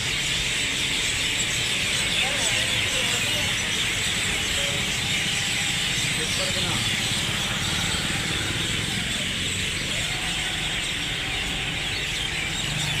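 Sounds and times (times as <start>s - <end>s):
low traffic hum: 0.0s - 13.0s
many birds chirping: 0.0s - 13.0s.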